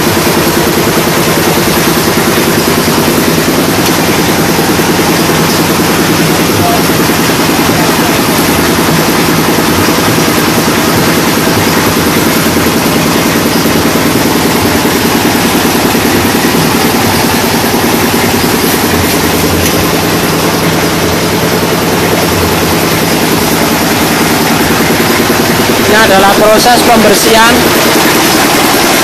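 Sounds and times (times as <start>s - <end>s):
brick-making machine droning: 0.0s - 29.0s.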